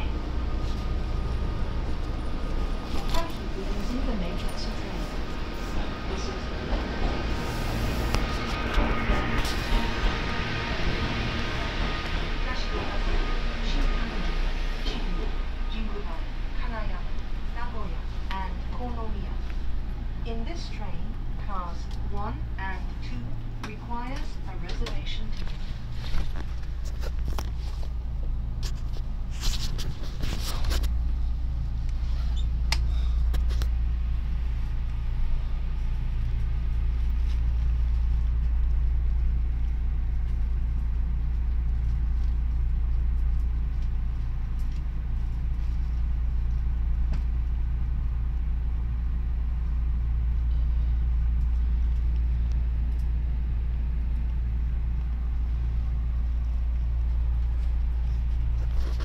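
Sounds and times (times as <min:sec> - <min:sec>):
electric train low hum: 0:00.0 - 0:59.0.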